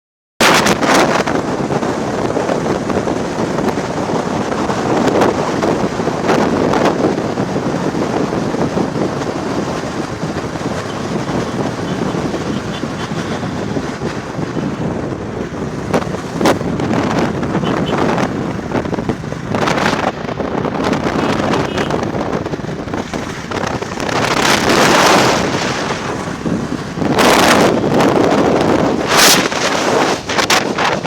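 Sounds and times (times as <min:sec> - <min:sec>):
wind rushing over microphone: 0:00.4 - 0:31.0
motorcycle engine running: 0:01.4 - 0:31.0.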